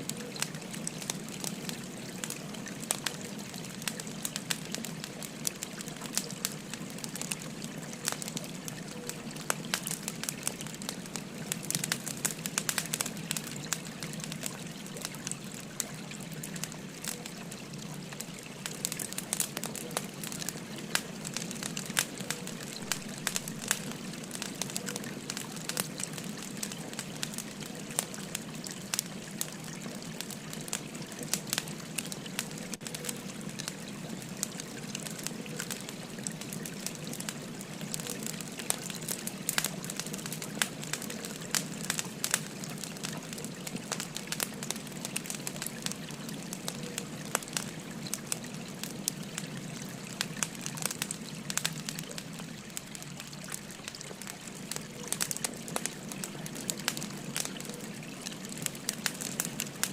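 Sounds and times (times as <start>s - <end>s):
stream trickling: 0.0s - 59.9s
wood fire crackling: 0.0s - 59.9s.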